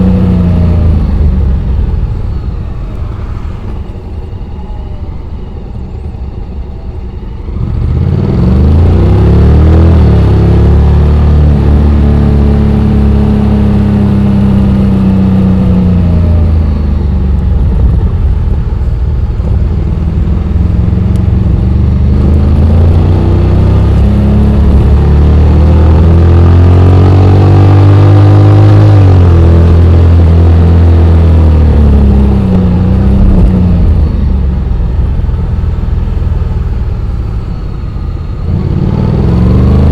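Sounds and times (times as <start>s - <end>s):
motorcycle engine revving: 0.0s - 3.9s, 7.6s - 39.9s.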